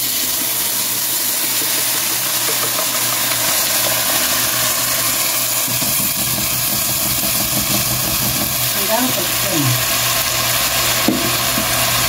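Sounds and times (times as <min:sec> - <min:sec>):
sauce sizzling in hot pot: 0:00.0 - 0:12.0.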